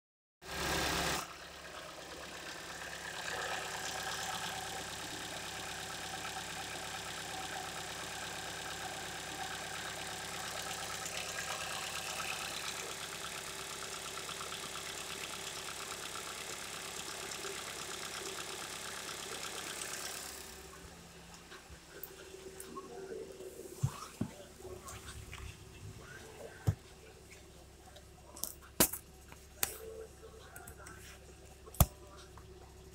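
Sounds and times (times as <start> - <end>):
car engine idling: 0.4 - 32.9.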